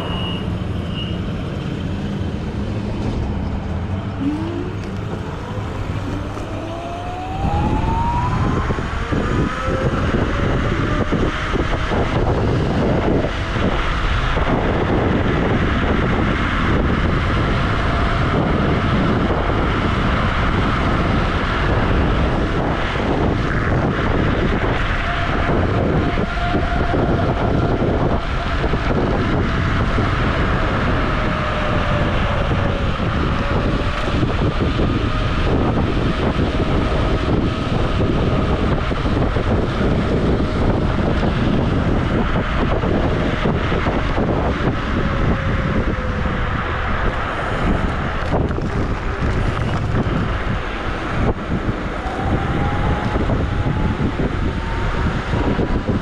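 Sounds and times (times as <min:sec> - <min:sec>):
wind rush on microphone: 0:00.0 - 0:56.0.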